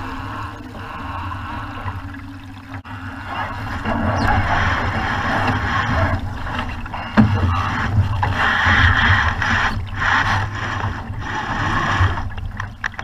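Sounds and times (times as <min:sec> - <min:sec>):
water rushing along boat hull: 0:00.0 - 0:13.0
wind rumble on microphone: 0:00.0 - 0:13.0.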